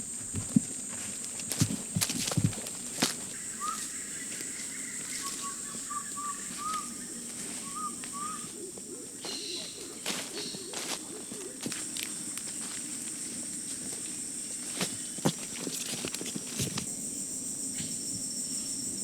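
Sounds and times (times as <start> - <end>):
high-pitched insect drone: 0.3 - 19.0.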